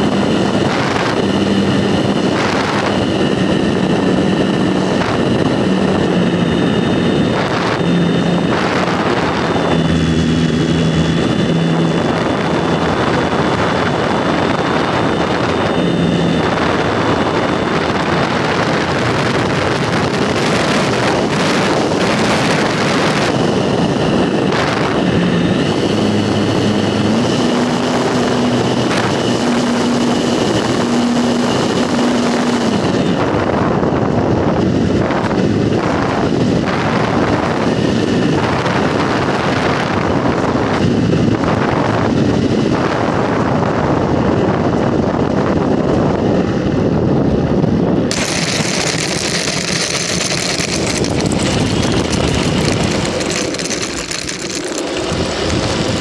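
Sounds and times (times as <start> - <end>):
model airplane motor and propeller: 0.0 - 56.0
wind rushing over microphone: 0.0 - 56.0.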